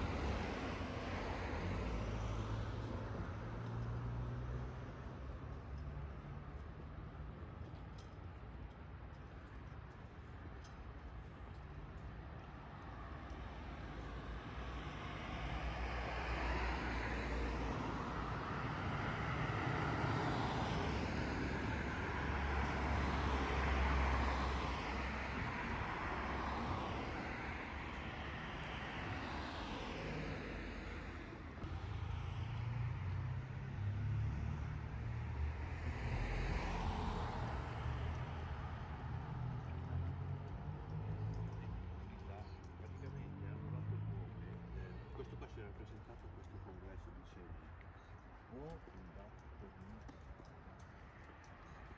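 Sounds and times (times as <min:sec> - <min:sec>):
vehicle engine and road noise: 0:00.0 - 0:51.9.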